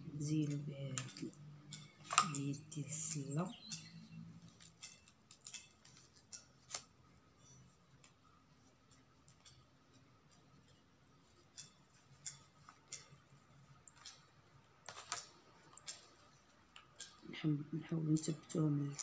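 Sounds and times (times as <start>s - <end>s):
ribbon clicking and rustling on wire: 0.0s - 19.0s.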